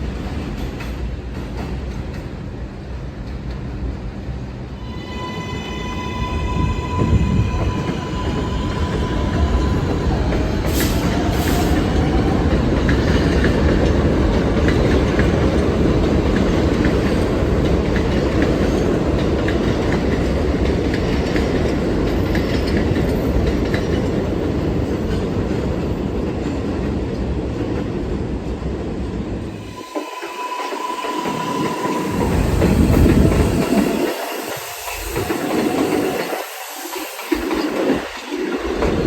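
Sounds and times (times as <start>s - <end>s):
rail joint clicks: 0.0s - 3.8s, 6.2s - 28.2s, 29.5s - 39.0s
subway train rumbling: 0.0s - 39.0s.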